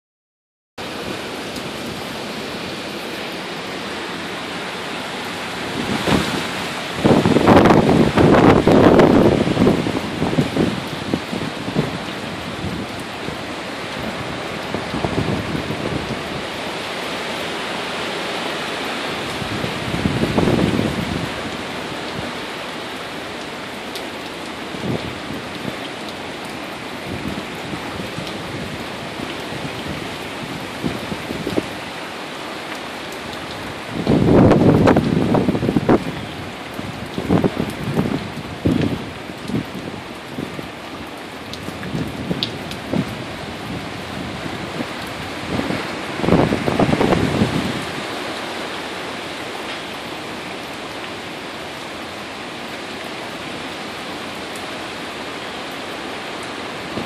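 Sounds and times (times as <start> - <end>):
heavy rain hissing: 0.8 - 57.0.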